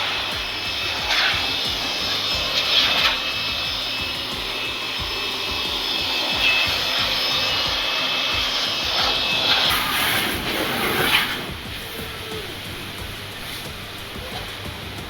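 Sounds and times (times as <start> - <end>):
cleaning machine motor running: 0.0 - 15.0
rushing air: 0.0 - 15.0
thin high whine: 0.0 - 15.0.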